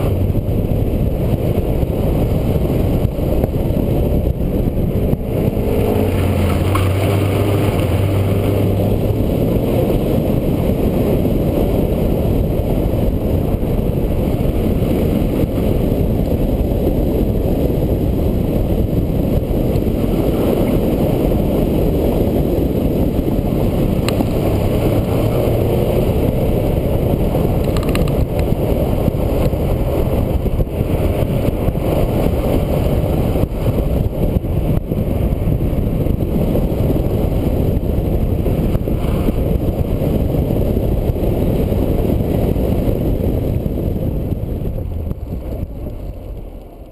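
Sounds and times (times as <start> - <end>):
car engine running hard: 0.0 - 46.9
wind noise on camera: 0.0 - 46.9.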